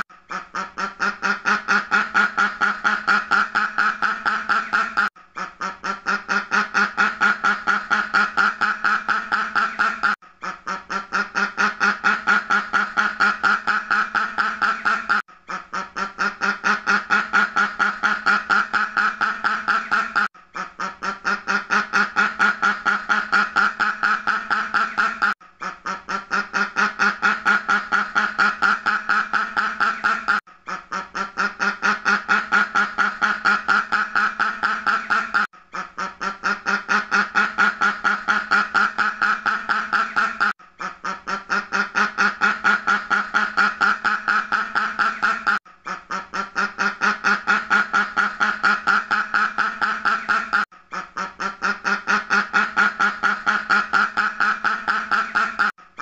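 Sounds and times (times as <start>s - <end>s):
duck quacking: 0.0s - 55.7s.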